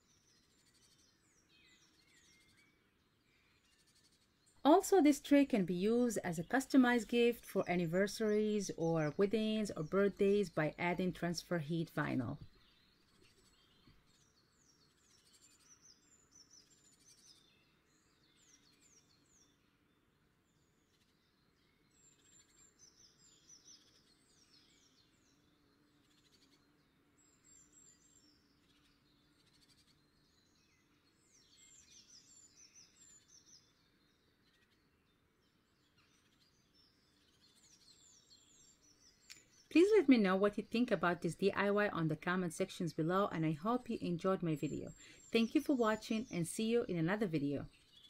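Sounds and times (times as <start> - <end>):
faint bird chirping: 0.0 - 48.0.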